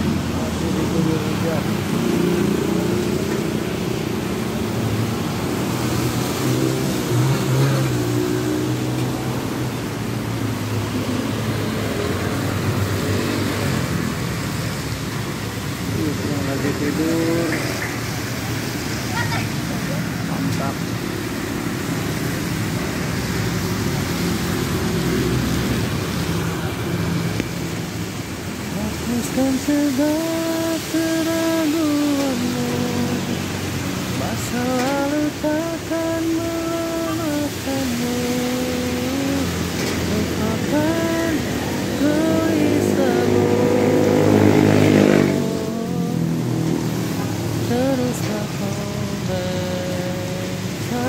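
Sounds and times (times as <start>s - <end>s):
rain hissing: 0.0s - 51.0s
tyres hissing on wet road: 0.0s - 51.0s
vehicles passing on wet road: 0.0s - 51.0s.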